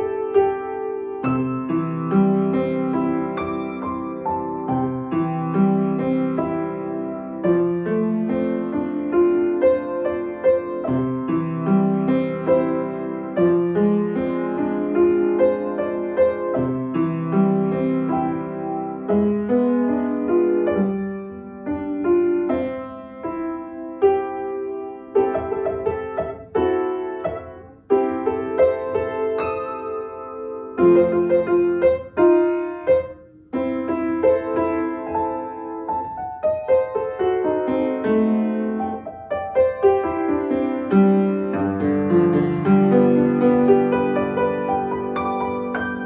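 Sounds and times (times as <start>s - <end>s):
slow gentle piano music: 0.0s - 46.0s.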